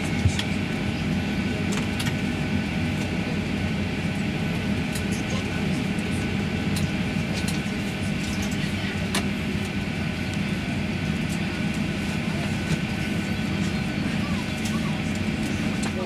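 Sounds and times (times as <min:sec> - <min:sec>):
airplane cabin drone: 0:00.0 - 0:16.0.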